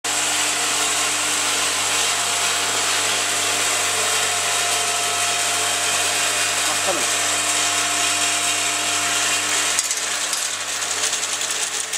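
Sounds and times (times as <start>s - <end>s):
filling machine whirring: 0.1s - 11.9s.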